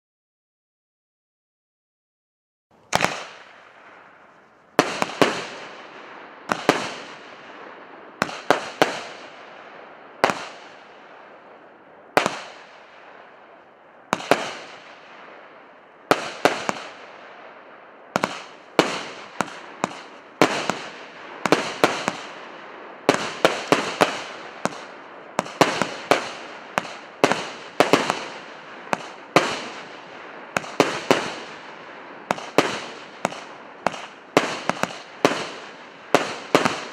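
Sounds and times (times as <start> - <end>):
firework bangs with hiss: 2.8 - 7.6, 8.2 - 11.3, 12.1 - 15.4, 16.0 - 36.9.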